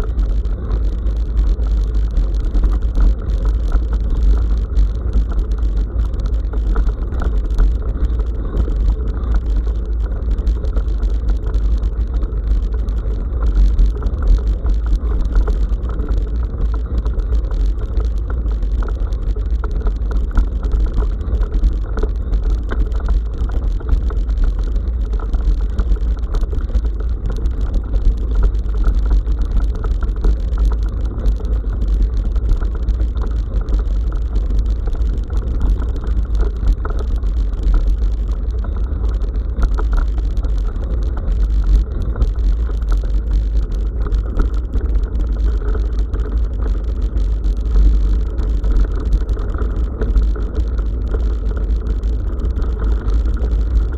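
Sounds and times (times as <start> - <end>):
small clicks and rattles: 0.0 - 53.9
wind and tyre rumble: 0.0 - 53.9.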